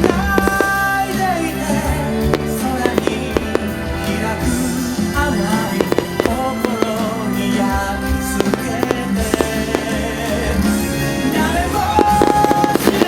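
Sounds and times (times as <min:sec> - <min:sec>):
fireworks bursting: 0:00.0 - 0:13.0
song over sound system: 0:00.0 - 0:13.0.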